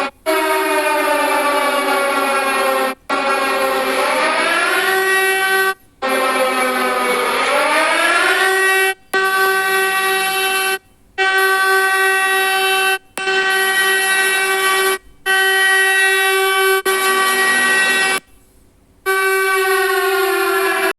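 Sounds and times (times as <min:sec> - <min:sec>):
siren tone: 0:00.0 - 0:10.6, 0:11.2 - 0:18.2, 0:19.1 - 0:20.9.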